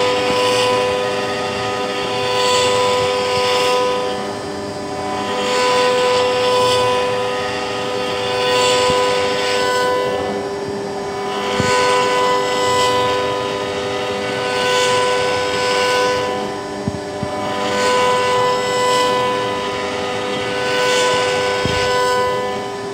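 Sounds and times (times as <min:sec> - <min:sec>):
cnc router spindle whine: 0:00.0 - 0:22.9
router bit cutting wood: 0:00.0 - 0:22.9.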